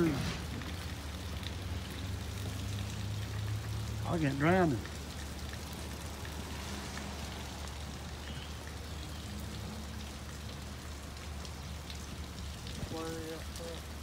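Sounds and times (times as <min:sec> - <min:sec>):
raindrops ticking on surfaces: 0:00.0 - 0:14.0
steady rain falling: 0:00.0 - 0:14.0.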